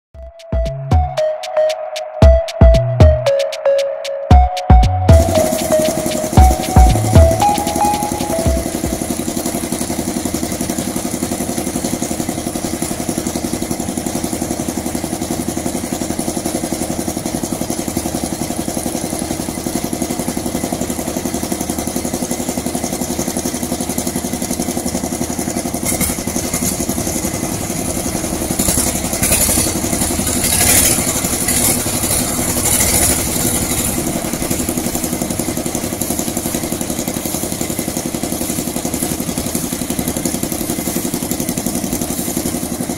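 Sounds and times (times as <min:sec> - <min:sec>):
concrete mixer engine running: 0:05.1 - 0:42.9.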